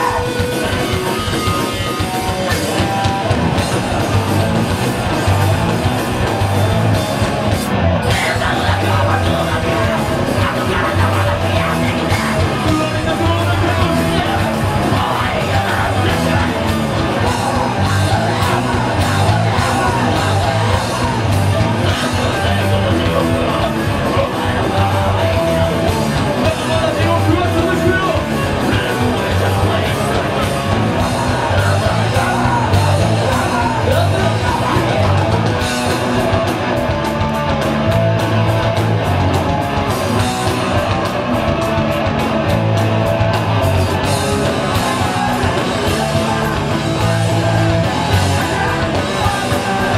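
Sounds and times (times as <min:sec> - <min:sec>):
live rock band playing: 0:00.0 - 0:49.9
shouted vocals: 0:00.0 - 0:49.9.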